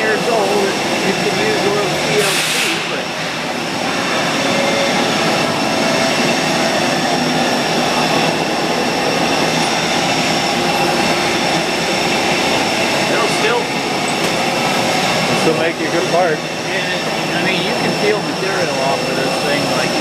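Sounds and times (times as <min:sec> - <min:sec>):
machine tool running: 0:00.0 - 0:20.0.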